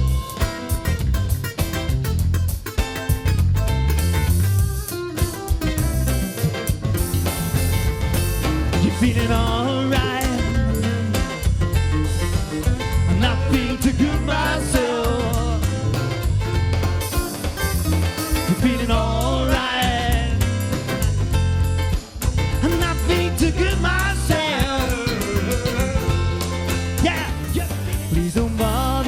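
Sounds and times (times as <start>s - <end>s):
bending lead melody: 0.0s - 29.0s
live rock band playing: 0.0s - 29.0s.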